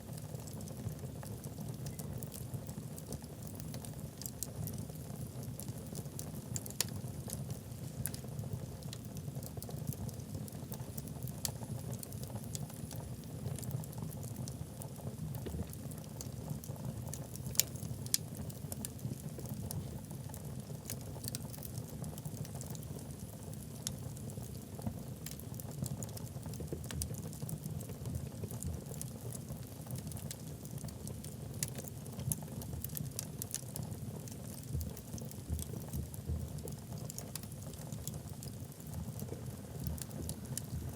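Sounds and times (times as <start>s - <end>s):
low rumble of flames: 0.0s - 40.9s
logs crackling and popping: 0.1s - 40.9s.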